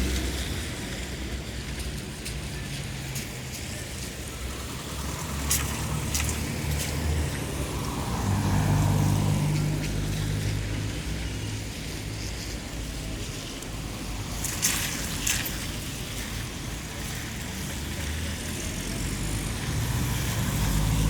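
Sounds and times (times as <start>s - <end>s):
tyres hissing on wet asphalt: 0.0s - 21.0s
vehicle engines humming: 0.0s - 21.0s.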